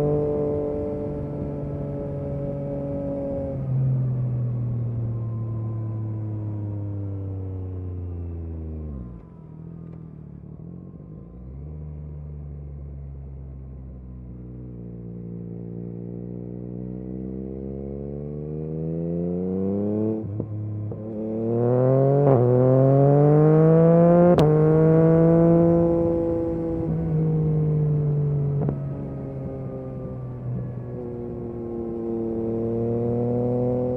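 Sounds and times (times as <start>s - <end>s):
motorcycle engine revving while riding: 0.0s - 33.9s.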